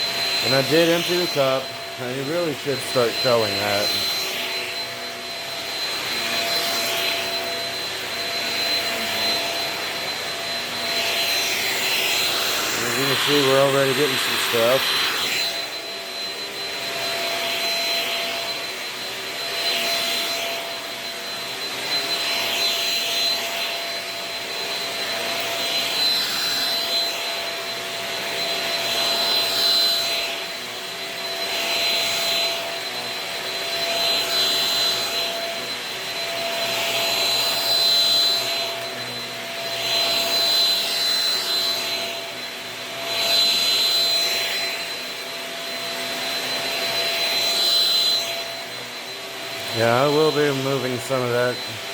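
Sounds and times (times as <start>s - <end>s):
vacuum cleaner motor whine: 0.0s - 51.9s.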